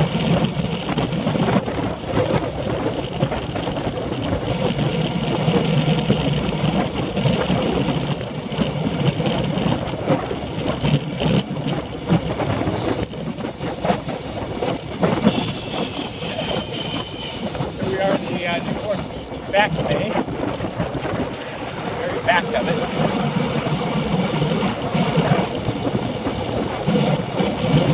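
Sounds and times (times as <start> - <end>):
road rumble: 0.0 - 27.9
wind buffeting: 0.0 - 27.9.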